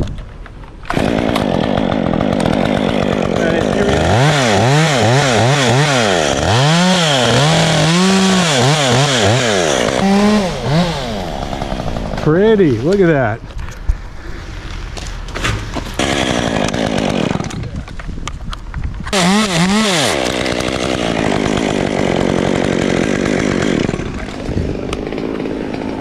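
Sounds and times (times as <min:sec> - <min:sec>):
chainsaw revving: 0:00.9 - 0:12.9, 0:15.8 - 0:17.7, 0:19.1 - 0:26.0.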